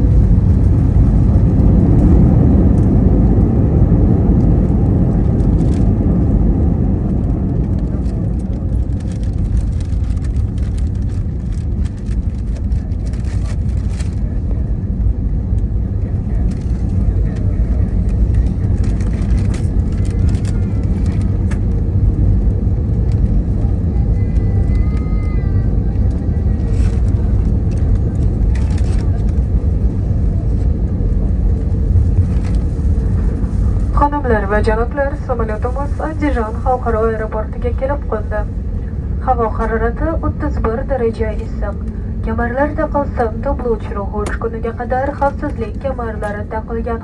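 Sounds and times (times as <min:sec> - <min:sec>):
jet engine and wheel rumble: 0:00.0 - 0:47.0.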